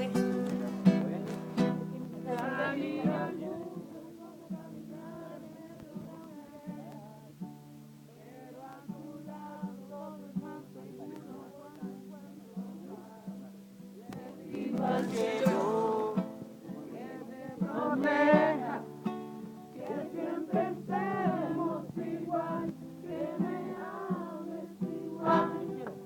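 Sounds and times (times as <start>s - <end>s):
plucked string instrument: 0.0s - 26.0s
voices singing: 0.0s - 26.0s.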